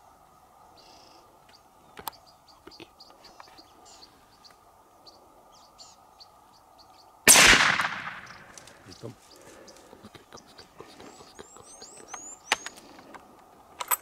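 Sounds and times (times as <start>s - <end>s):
background hiss: 0.0s - 14.0s
bird chirps and calls: 0.7s - 7.2s, 8.2s - 13.1s.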